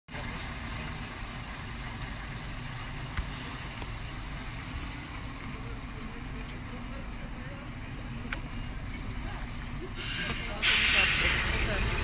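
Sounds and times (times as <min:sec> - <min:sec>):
truck diesel engine idling: 0:00.1 - 0:12.0.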